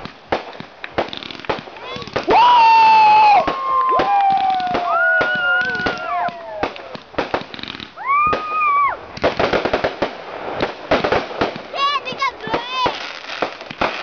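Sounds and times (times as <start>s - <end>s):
fireworks bangs and crackling: 0.0s - 14.0s
fireworks whistles: 0.4s - 14.0s.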